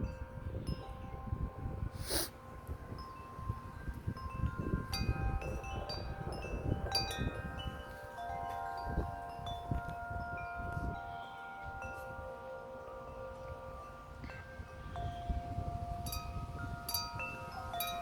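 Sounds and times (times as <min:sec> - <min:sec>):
metal wind chimes ringing: 0:00.0 - 0:18.0
wind buffeting microphone: 0:00.0 - 0:18.0.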